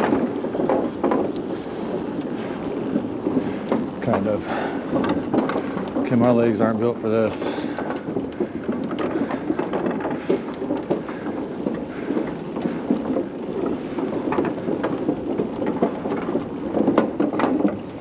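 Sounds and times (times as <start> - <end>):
bicycle tyres rumbling on bridge deck: 0.0 - 18.0
clattering and rattling: 0.0 - 18.0.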